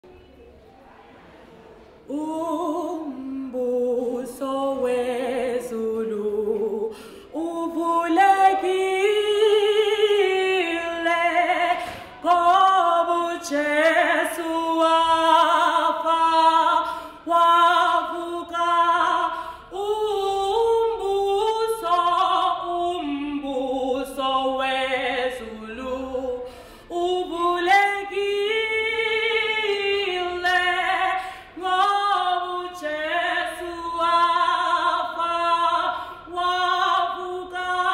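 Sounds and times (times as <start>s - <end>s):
woman singing unaccompanied: 2.1s - 37.9s.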